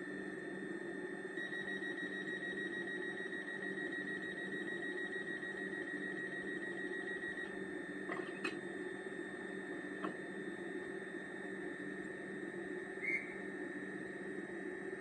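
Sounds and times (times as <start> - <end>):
low hum from small loudspeaker: 0.0 - 15.0.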